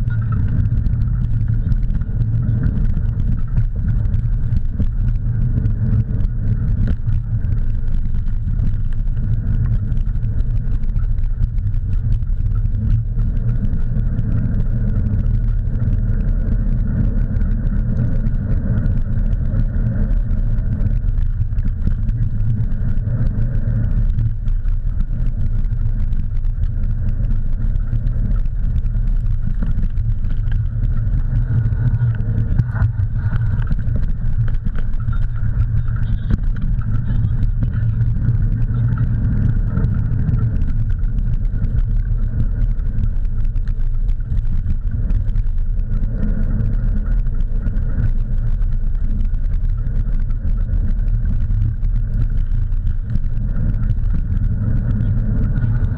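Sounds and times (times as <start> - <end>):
wheels rolling over dirt trail: 0.0 - 55.9
wind on microphone: 0.0 - 55.9.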